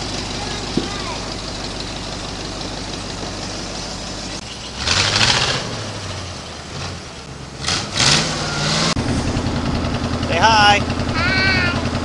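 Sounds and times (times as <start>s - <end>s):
loader engine running: 0.0s - 12.0s.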